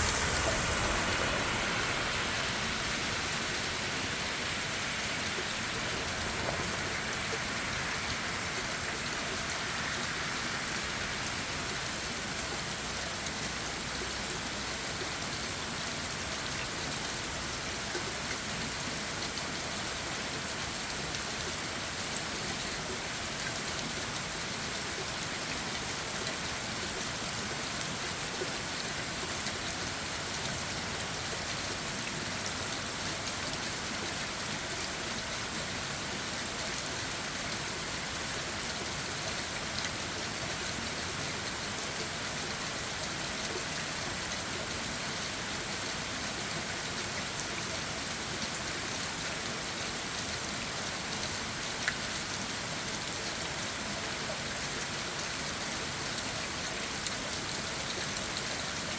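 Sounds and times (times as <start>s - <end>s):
rain pattering on leaves: 0.0s - 58.9s.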